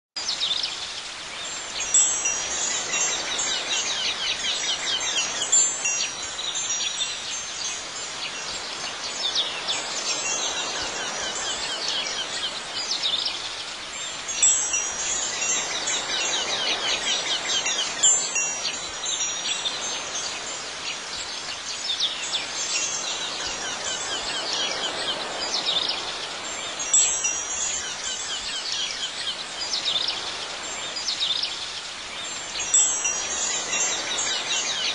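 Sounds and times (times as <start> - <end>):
wind chimes ringing: 1.4 - 13.2, 14.0 - 31.4, 32.2 - 34.9.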